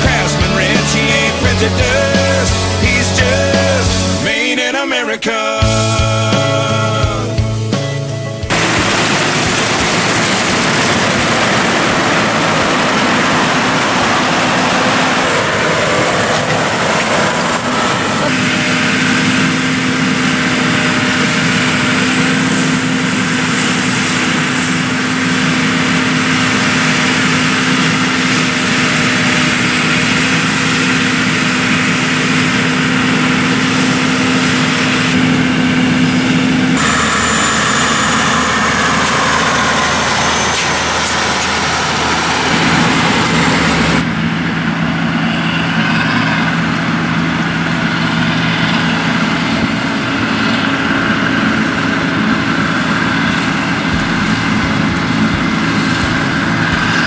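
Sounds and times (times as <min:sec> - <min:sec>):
combine harvester engine drone: 0:00.0 - 0:04.6, 0:05.6 - 0:57.0.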